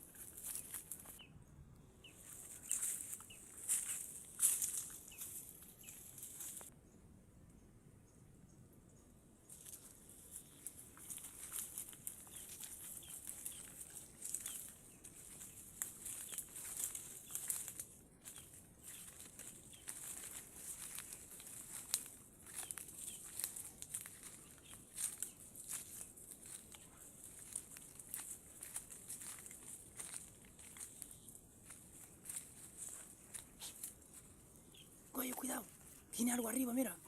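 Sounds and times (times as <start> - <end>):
brush rustling and crackling: 0.0 - 1.3, 2.1 - 6.7, 9.5 - 37.0
faint bird chirps: 0.1 - 35.7.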